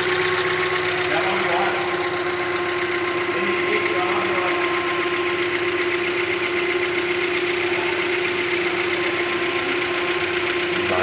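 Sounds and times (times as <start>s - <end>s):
engine idling: 0.0s - 11.0s
engine ticking: 0.0s - 11.0s.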